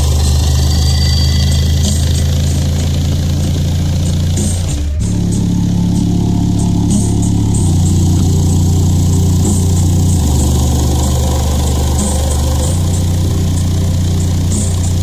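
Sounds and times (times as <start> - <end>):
deep bass notes: 0.0 - 15.0.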